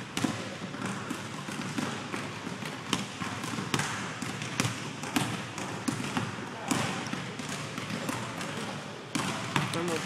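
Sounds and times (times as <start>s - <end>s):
basketballs bouncing on wood floor: 0.0s - 10.0s
steady background noise: 0.0s - 10.0s.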